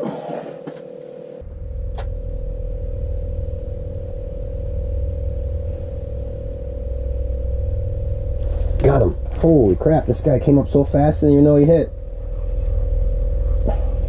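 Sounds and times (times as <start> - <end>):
steady electronic hum: 0.0 - 14.0
low rumble: 1.4 - 14.0.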